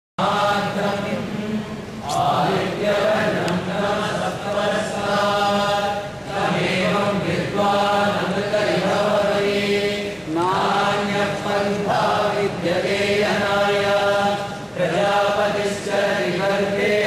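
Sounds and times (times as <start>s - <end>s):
voices chanting long notes: 0.2s - 17.0s.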